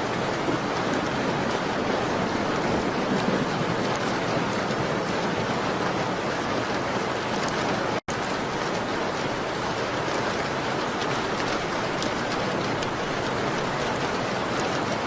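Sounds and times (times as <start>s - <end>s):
rain on window glass: 0.0s - 15.0s.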